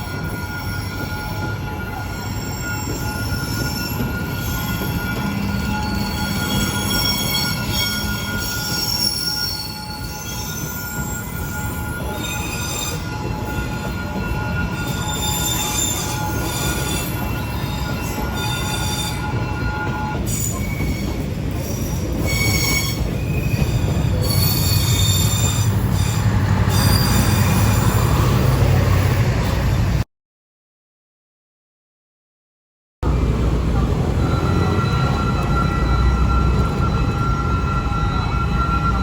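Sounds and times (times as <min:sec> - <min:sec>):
train rumble: 0:00.0 - 0:30.0, 0:33.0 - 0:39.0
train wheel squeal: 0:00.0 - 0:30.0, 0:33.1 - 0:39.0.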